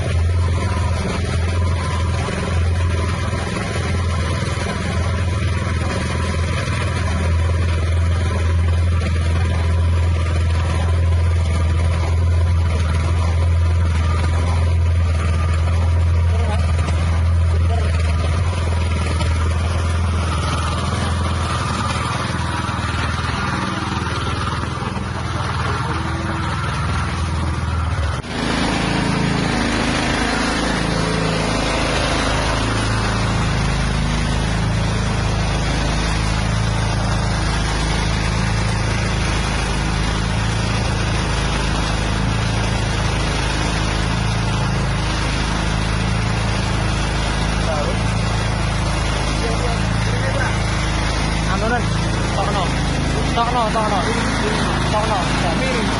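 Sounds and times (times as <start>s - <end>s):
feed mixer machine running: 0.0s - 55.9s.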